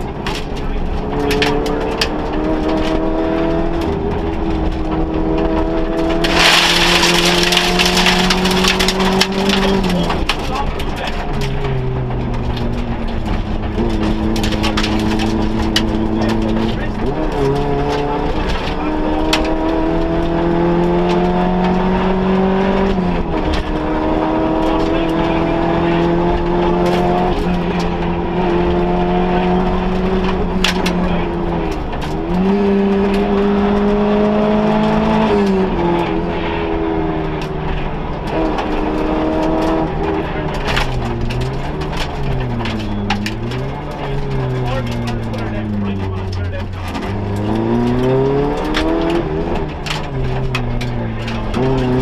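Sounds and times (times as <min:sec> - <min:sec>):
car engine pulling under load: 0:00.0 - 0:52.0.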